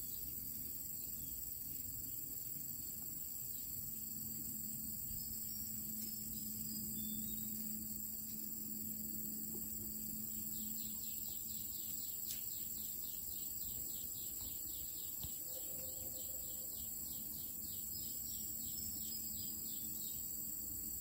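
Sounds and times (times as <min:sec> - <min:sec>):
steady high-pitched whine: 0:00.0 - 0:21.0.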